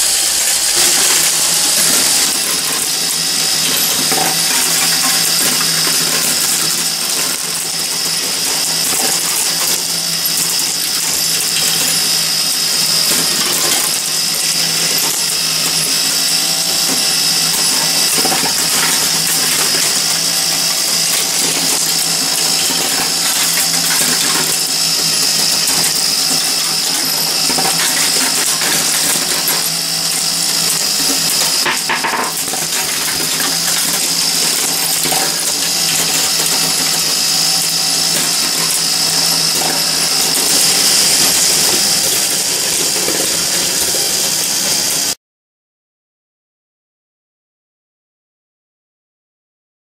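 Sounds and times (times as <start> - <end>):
marbles clicking: 0.0 - 45.2
metallic machine clatter: 0.0 - 45.2.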